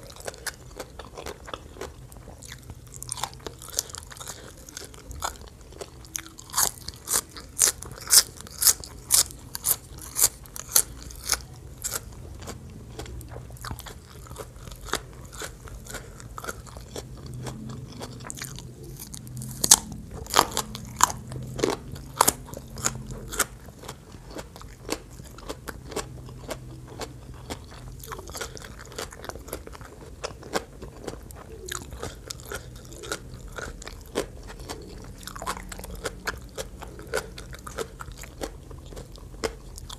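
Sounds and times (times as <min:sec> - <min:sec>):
crunching crunchy food: 0:00.0 - 0:39.9.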